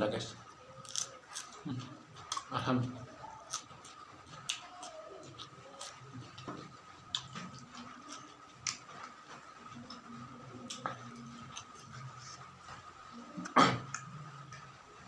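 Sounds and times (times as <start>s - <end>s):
low steady hum: 0.0s - 15.0s
person chewing food: 0.8s - 14.7s.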